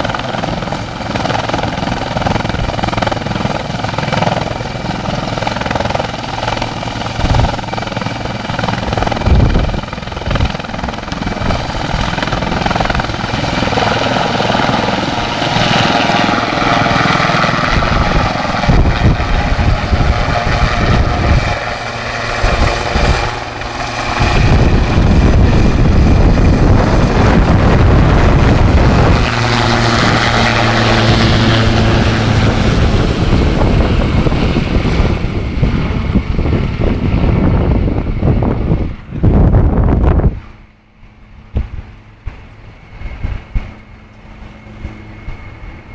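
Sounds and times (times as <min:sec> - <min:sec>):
helicopter flying by: 0:00.0 - 0:45.9.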